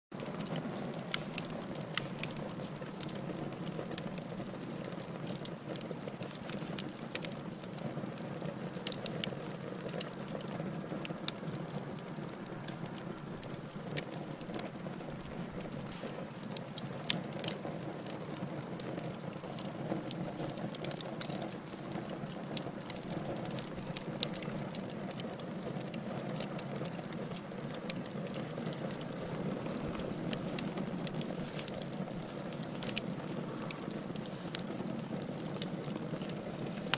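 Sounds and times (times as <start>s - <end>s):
wood fire crackling: 0.1s - 36.9s
low rush of flames: 0.2s - 36.9s.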